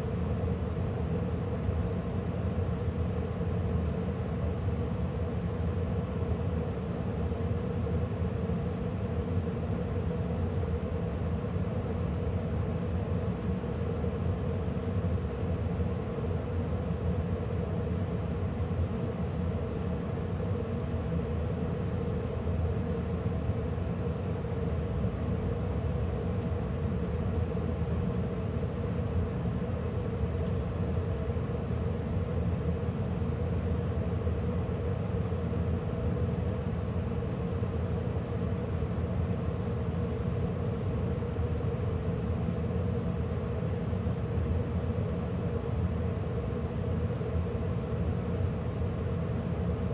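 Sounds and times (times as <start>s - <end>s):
furnace blower fan whirring: 0.0s - 49.9s.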